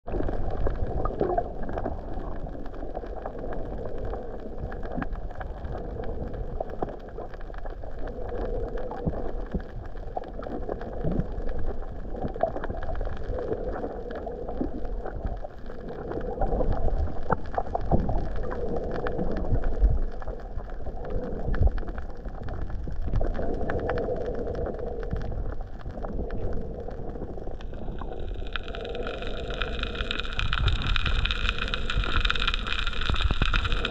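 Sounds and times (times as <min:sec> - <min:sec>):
underwater crackles and clicks: 0:00.0 - 0:33.9
underwater swirl and rumble: 0:00.0 - 0:33.9.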